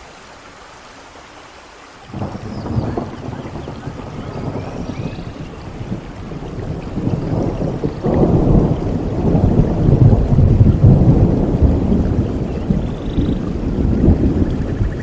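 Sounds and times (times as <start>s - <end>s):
steady rain: 0.0s - 15.0s
rolling thunder: 2.1s - 15.0s.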